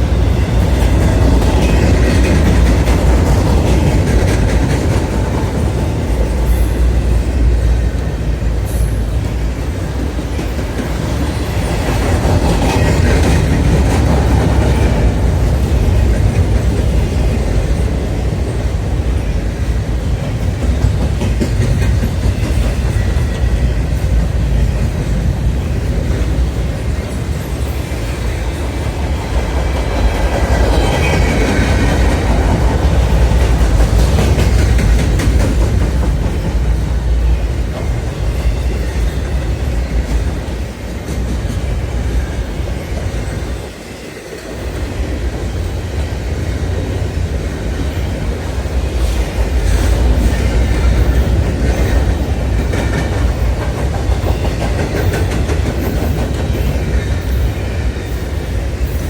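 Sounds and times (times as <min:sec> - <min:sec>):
freight train rumbling past: 0:00.0 - 0:59.0
train wheels clickety-clack: 0:00.0 - 0:59.0.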